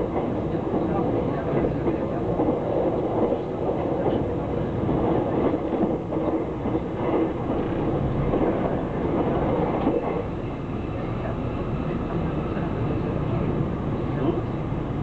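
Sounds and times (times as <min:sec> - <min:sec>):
passenger train rumbling at speed: 0:00.0 - 0:15.0.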